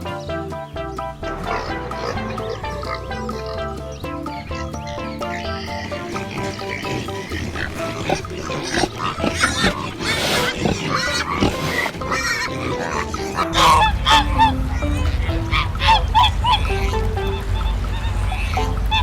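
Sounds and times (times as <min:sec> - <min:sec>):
geese honking: 0:00.0 - 0:19.0
light background music: 0:00.0 - 0:19.0
pigs grunting and squealing: 0:00.0 - 0:19.0.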